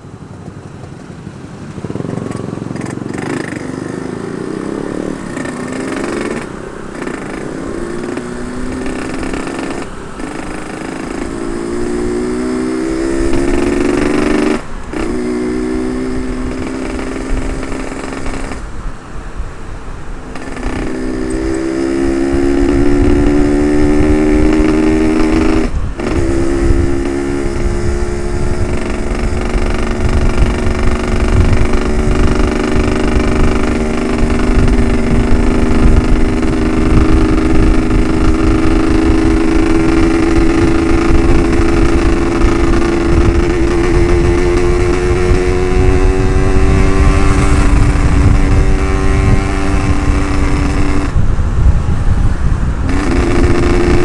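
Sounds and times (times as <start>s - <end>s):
two-stroke engine running hard: 0.0s - 18.7s, 20.3s - 51.7s, 52.9s - 54.0s
wind on microphone: 0.0s - 54.0s.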